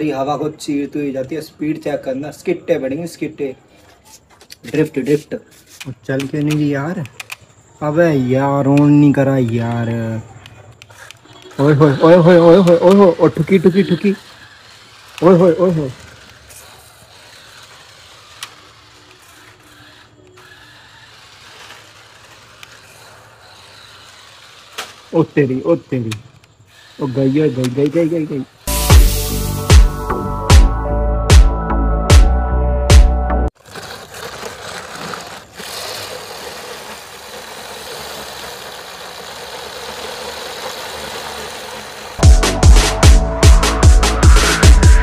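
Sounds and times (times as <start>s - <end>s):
toy car motor whirring: 0.0s - 29.7s, 33.5s - 42.4s.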